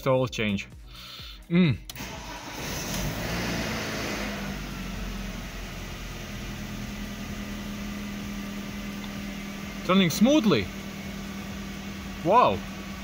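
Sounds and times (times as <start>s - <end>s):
car engine idling: 1.9s - 13.0s.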